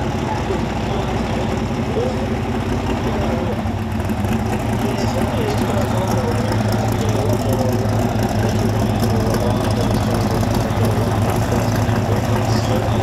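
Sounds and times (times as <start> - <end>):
car engine idling choppily: 0.0 - 13.0.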